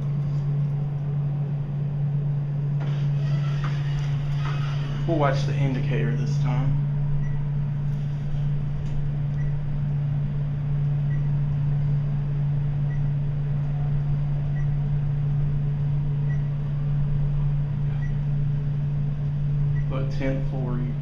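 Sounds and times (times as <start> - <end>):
elevator low hum: 0.0 - 21.0.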